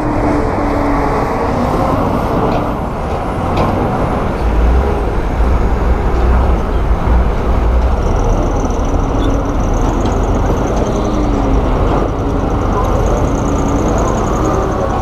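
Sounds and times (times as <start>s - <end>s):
diesel machinery engine rumble: 0.0s - 15.0s.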